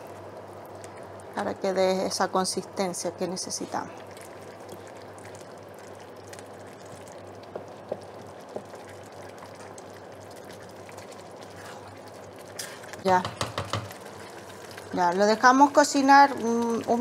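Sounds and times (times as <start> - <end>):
low steady hum: 0.0 - 17.0
sauce simmering and bubbling: 3.2 - 17.0.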